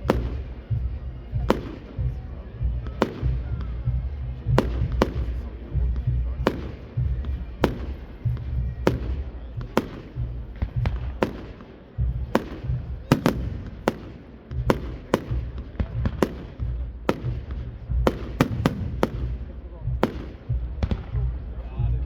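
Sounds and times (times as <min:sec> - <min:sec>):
fireworks sharp bangs: 0:00.0 - 0:02.2, 0:02.8 - 0:21.4.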